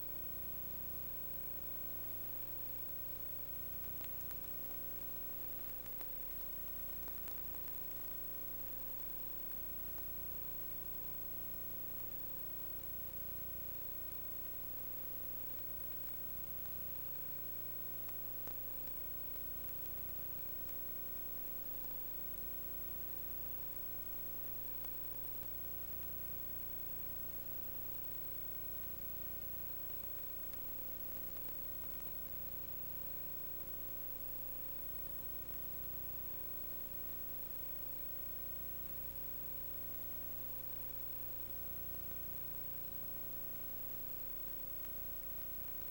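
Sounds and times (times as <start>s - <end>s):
electrical hum and hiss: 0.0s - 45.9s.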